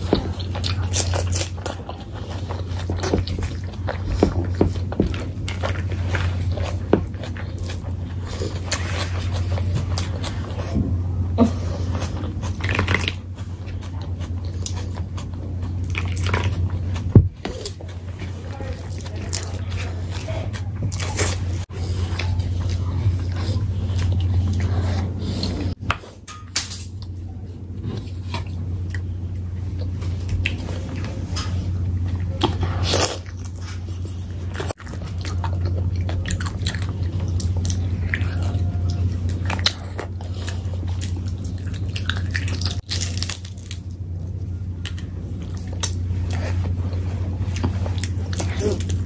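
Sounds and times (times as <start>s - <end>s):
chewing and eating: 0.0s - 49.0s
low hum: 0.0s - 49.0s.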